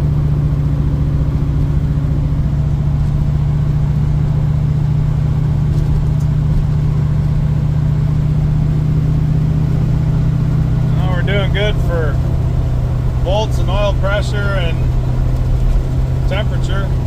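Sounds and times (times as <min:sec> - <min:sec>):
car exhaust drone at cruise: 0:00.0 - 0:17.0.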